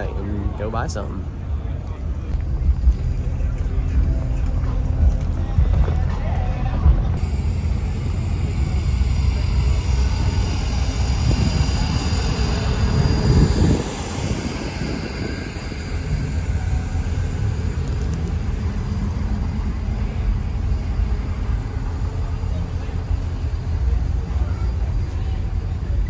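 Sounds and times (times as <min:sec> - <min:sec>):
diesel truck engine rumbling: 0:00.0 - 0:26.0.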